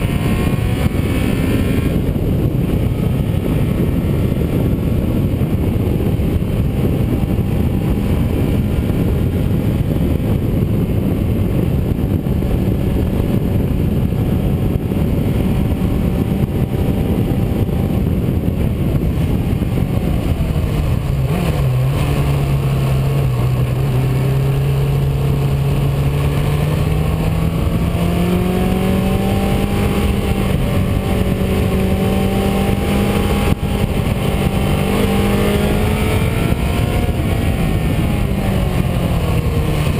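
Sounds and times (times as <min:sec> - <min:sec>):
car engine: 0:00.0 - 0:39.9
tyre and wind noise: 0:00.0 - 0:39.9.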